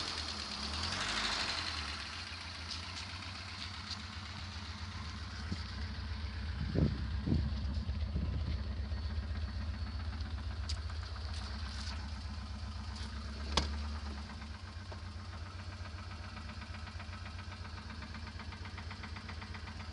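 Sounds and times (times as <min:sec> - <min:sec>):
car engine knocking: 0:00.0 - 0:19.9.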